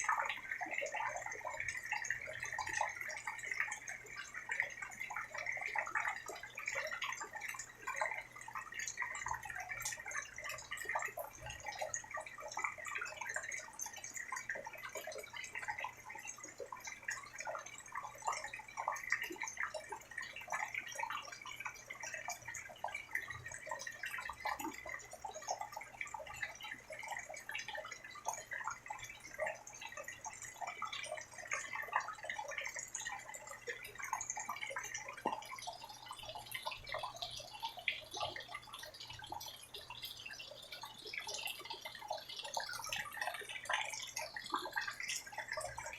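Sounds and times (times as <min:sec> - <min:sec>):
steady rain dripping: 0:00.0 - 0:45.9.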